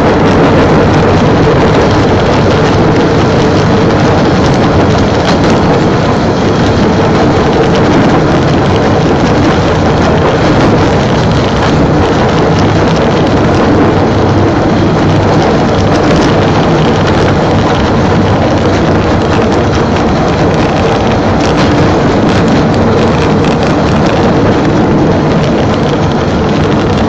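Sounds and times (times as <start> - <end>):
rail vehicle engine running: 0.0 - 27.0
rail vehicle running noise: 0.0 - 27.0.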